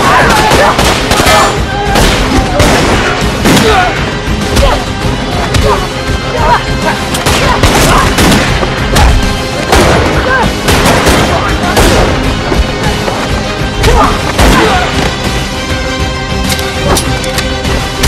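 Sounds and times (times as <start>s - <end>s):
fighters grunting and shouting: 0.0s - 11.9s, 12.7s - 15.2s
driving film score: 0.0s - 18.0s.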